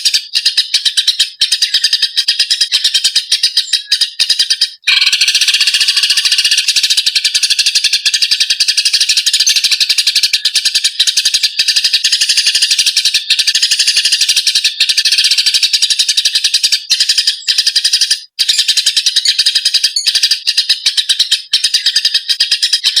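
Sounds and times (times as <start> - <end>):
sparrows chattering harshly: 0.0 - 23.0.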